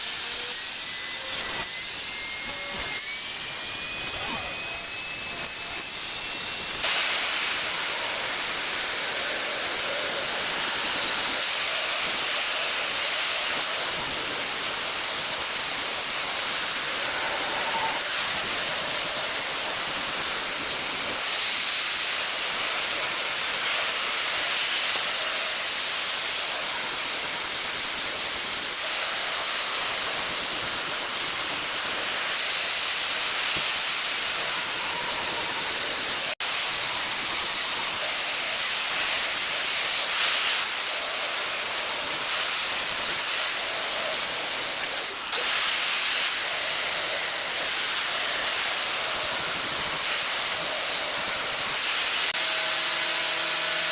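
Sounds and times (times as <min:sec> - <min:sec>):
small electric motor whining: 0:00.0 - 0:53.9.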